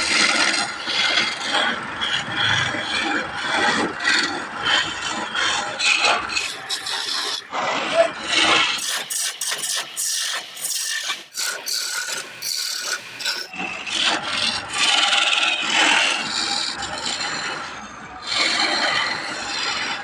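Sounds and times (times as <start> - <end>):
rasping and scraping wood: 0.0 - 20.0.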